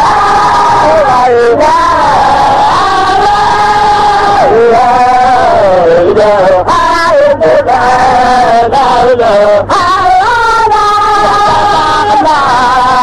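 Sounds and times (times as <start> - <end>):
person chanting long sung notes: 0.0 - 13.0.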